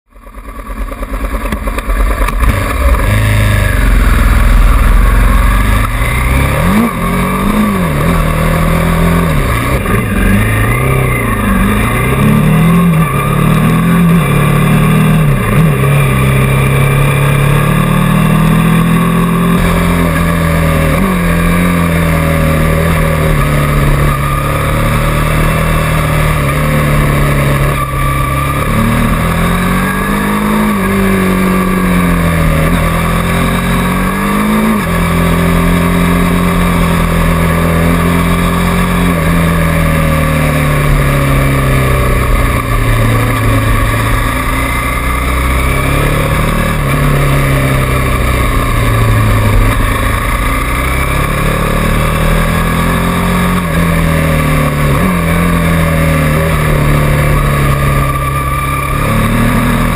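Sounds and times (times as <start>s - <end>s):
motorcycle engine revving: 0.1s - 59.9s.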